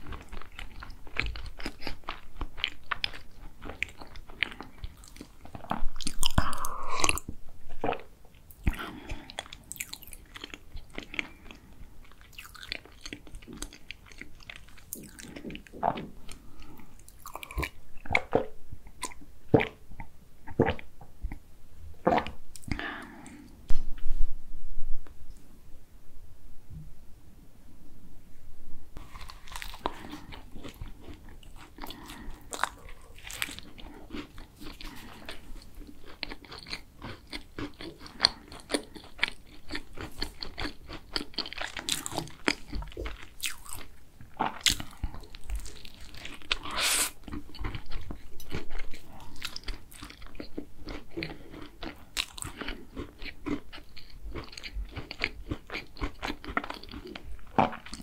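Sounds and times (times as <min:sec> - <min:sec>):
crunchy pastry chewing: 0:00.0 - 0:19.8, 0:29.0 - 0:58.0.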